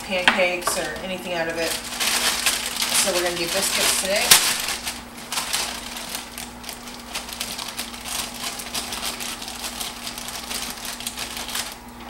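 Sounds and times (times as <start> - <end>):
steady low hum: 0.0 - 12.0
plastic bag rustling: 0.4 - 12.0.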